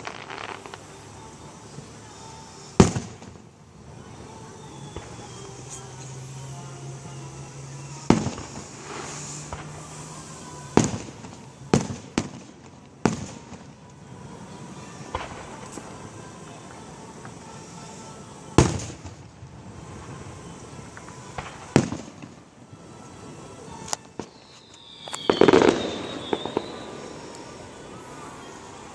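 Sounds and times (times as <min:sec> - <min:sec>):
fireworks bursting with bangs: 0:00.0 - 0:28.9.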